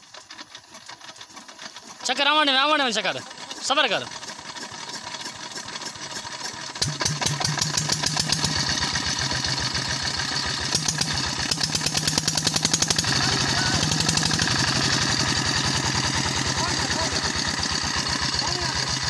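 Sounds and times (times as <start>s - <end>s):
diesel engine knocking: 0.0s - 19.0s
electric motor turning belt: 0.0s - 19.0s.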